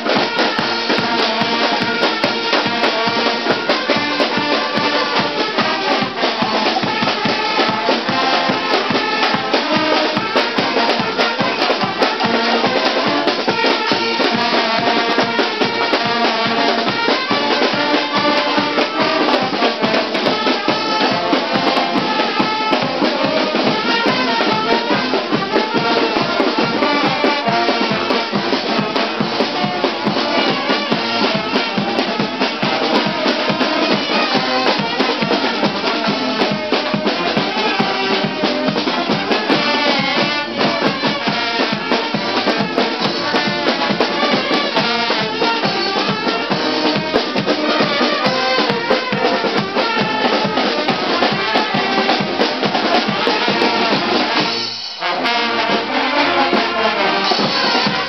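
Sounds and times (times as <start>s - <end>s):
drum beat: 0.0s - 58.0s
trumpets: 0.0s - 58.0s.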